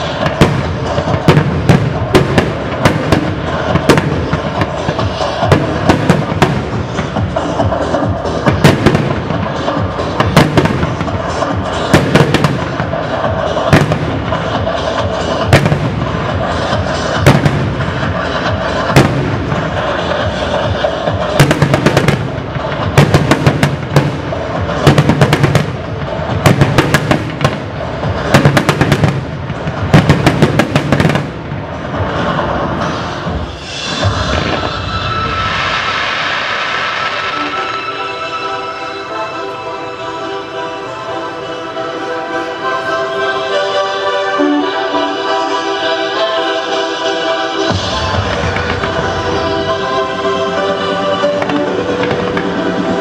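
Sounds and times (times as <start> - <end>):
fireworks reports: 0.0 - 53.0
music: 0.0 - 53.0.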